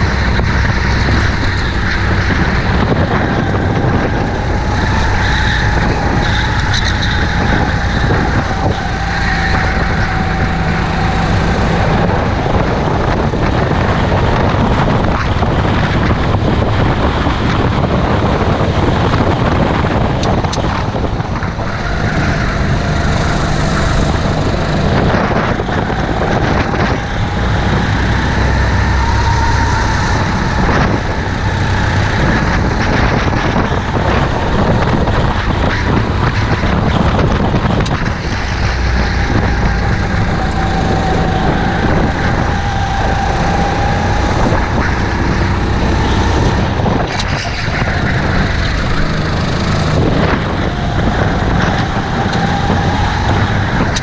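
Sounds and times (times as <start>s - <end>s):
kart engine racing: 0.0s - 54.0s
nearby kart engines: 0.0s - 54.0s
wind noise on microphone: 0.0s - 54.0s.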